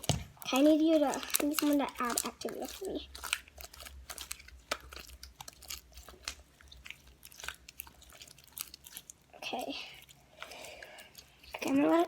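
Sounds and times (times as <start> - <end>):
hands squeezing sticky slime: 0.0 - 12.0.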